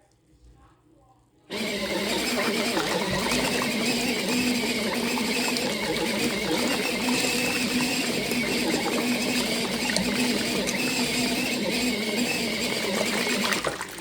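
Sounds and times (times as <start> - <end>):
washing machine motor humming: 1.5 - 14.0.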